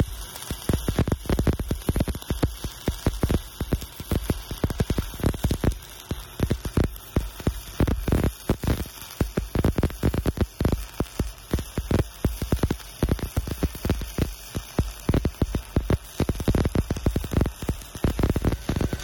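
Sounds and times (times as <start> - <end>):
welding arc crackling and popping: 0.0 - 19.0.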